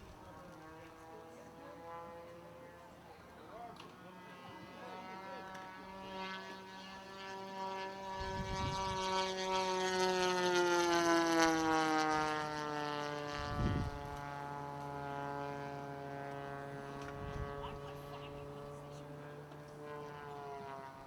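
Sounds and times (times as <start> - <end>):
model airplane engine flying past: 0.0 - 21.0.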